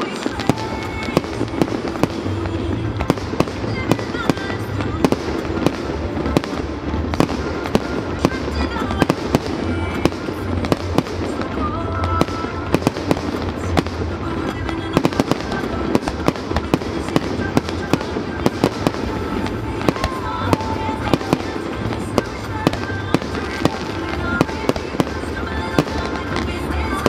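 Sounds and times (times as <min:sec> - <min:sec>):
fireworks cracking and popping: 0:00.0 - 0:27.0.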